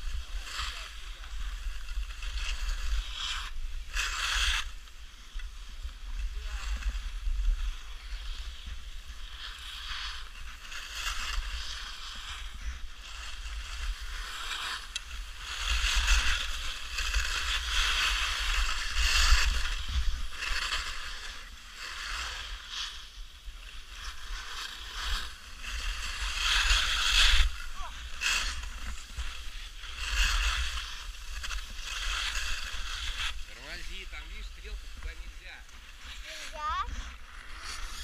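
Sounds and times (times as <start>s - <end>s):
skis hissing on snow: 0.0s - 38.0s.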